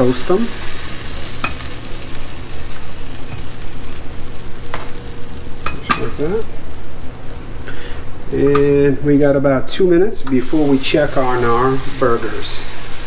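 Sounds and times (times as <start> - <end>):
buns sizzling on a griddle: 0.0 - 8.9, 10.2 - 13.0.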